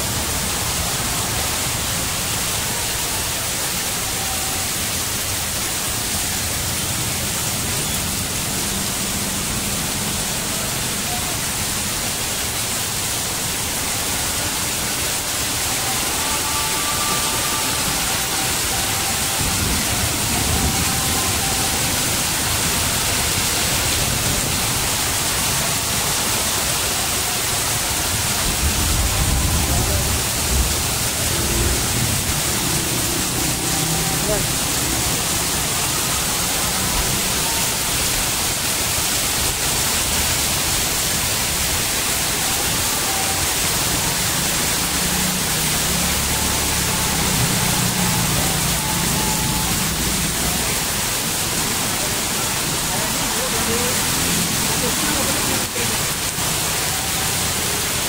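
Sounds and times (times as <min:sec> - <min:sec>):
heavy rain on pavement and roofs: 0:00.0 - 0:58.0
runoff pouring from roof edges: 0:00.0 - 0:58.0.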